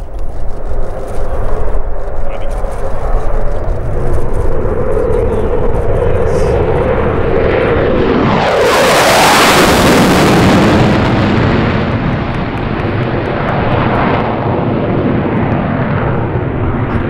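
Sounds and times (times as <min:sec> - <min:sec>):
jet fighter roaring past: 0:00.0 - 0:17.0.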